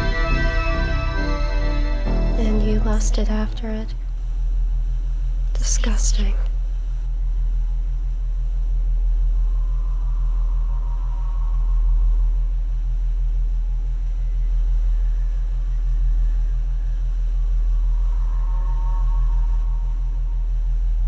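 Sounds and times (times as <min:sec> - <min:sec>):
high eerie tones: 0:00.0 - 0:07.0, 0:08.9 - 0:21.0
deep rumbling drone: 0:00.0 - 0:21.0.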